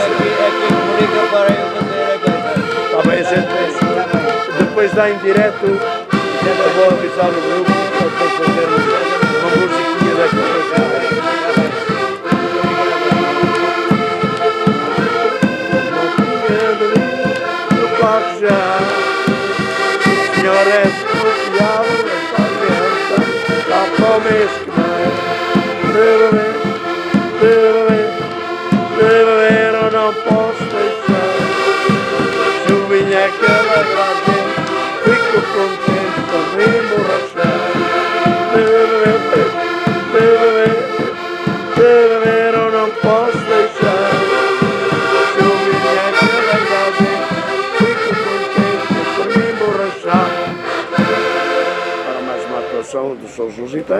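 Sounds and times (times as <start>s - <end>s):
bass drum beat: 0.0s - 51.7s
accordions playing folk tune: 0.0s - 53.9s.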